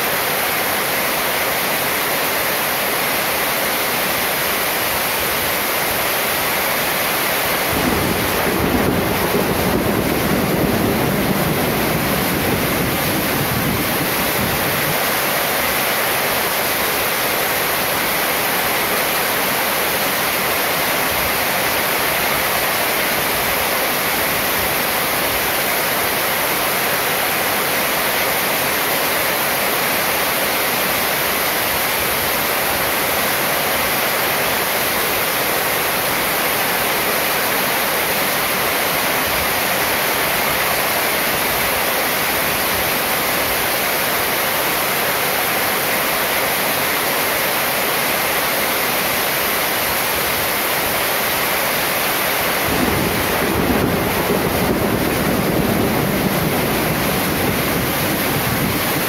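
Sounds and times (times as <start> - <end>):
heavy rain on metal roof: 0.0 - 59.0.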